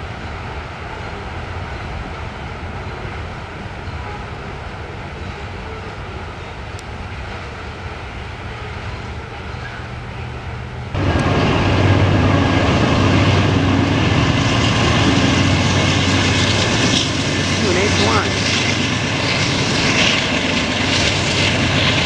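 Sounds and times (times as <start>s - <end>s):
diesel locomotives droning: 0.0s - 22.0s
freight cars rolling on rails: 0.0s - 22.0s.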